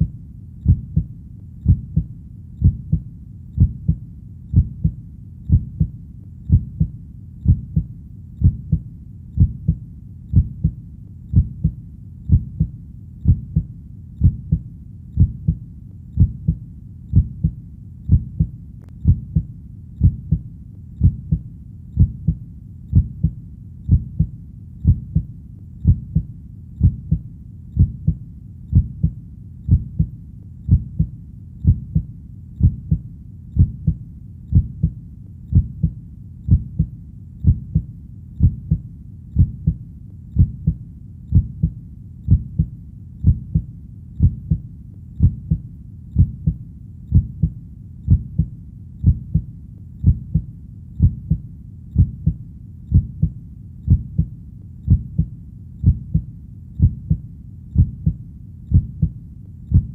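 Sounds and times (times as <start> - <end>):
heartbeat thumping: 0.0 - 59.9.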